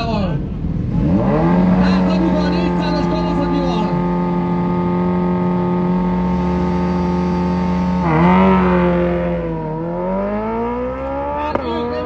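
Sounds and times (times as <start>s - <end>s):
motorcycle engines revving: 0.0s - 12.0s
motorcycles accelerating away: 0.7s - 12.0s.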